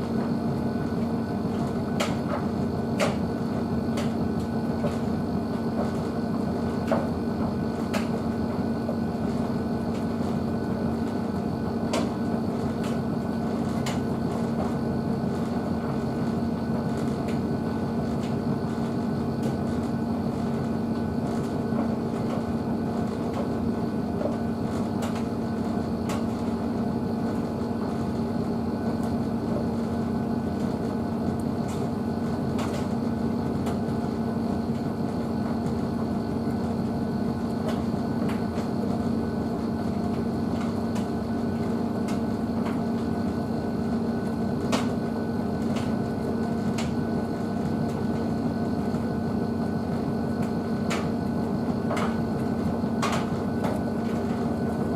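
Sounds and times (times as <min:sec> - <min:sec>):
washing machine humming: 0:00.0 - 0:54.9.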